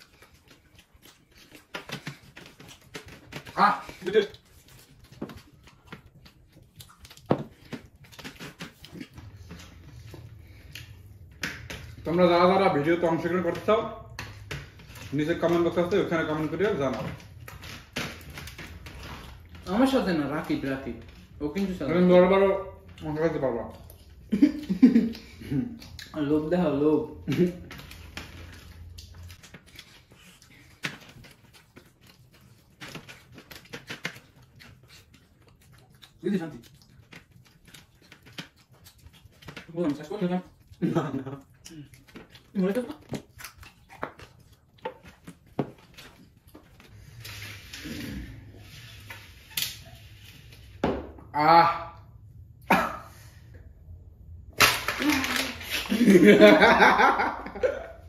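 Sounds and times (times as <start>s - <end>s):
people chewing food: 0.0s - 50.8s, 51.4s - 58.0s.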